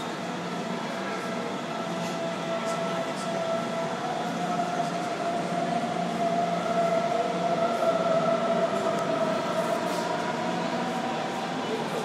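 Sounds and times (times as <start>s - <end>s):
train rolling rumble: 0.0s - 12.0s.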